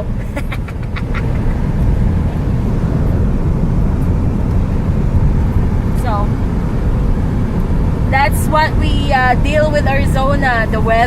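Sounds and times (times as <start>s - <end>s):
road and wind noise inside a car: 0.0s - 11.0s.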